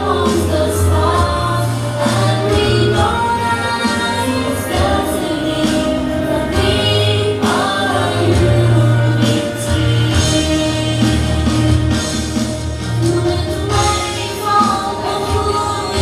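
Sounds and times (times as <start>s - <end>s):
group of voices singing: 0.0s - 16.0s
instrumental accompaniment: 0.0s - 16.0s.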